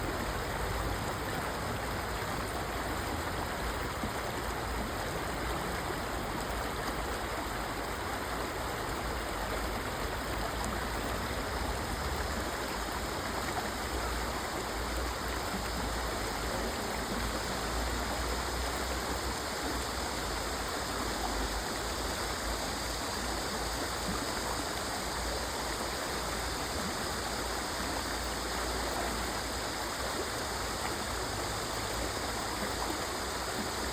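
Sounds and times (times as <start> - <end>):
stream water flowing: 0.0 - 33.9.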